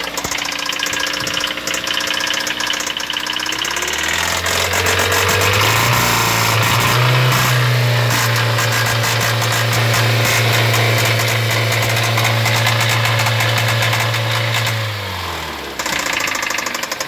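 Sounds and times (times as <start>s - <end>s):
car engine idling with ticking: 0.0s - 17.0s.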